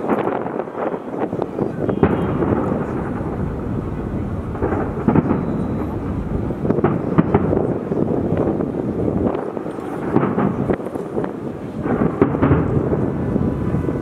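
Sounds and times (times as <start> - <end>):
fireworks booming: 0.0 - 14.0
sharp fireworks reports: 0.0 - 14.0.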